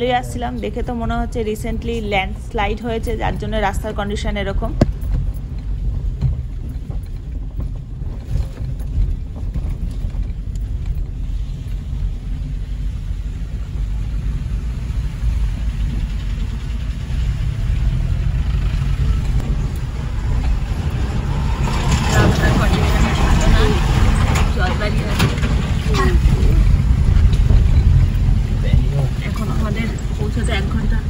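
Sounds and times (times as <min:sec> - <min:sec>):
car rumbling over rough road: 0:00.0 - 0:31.0.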